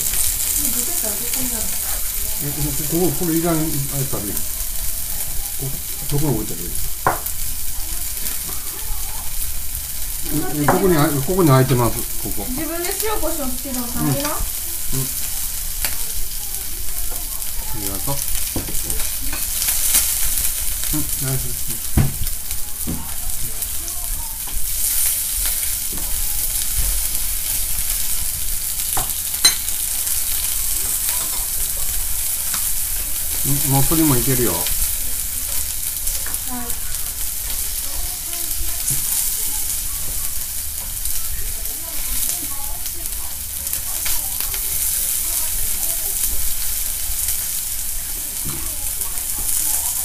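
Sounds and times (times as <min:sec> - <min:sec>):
food sizzling on a hot plate: 0:00.0 - 0:50.0.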